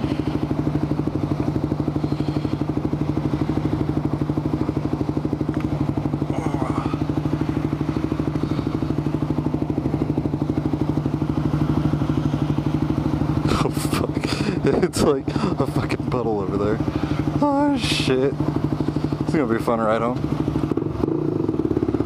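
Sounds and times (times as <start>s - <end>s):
atv engine idling: 0.0s - 22.0s.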